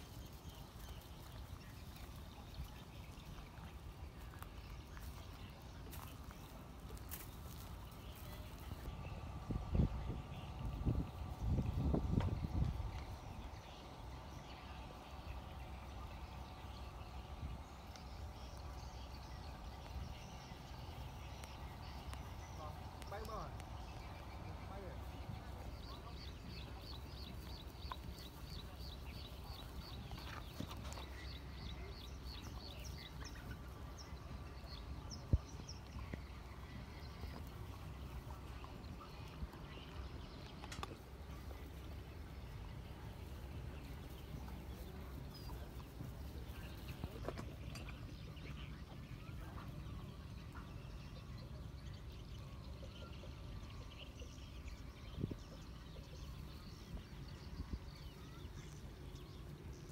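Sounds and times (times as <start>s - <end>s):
bird chirping: 0.0s - 59.9s
low steady rumble: 0.0s - 59.9s.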